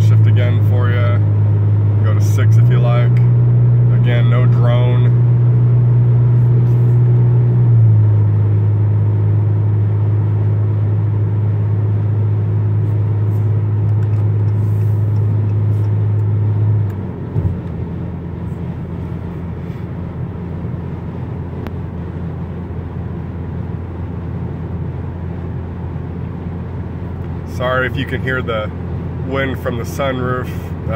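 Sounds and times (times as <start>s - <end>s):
low exhaust hum: 0.0s - 30.9s.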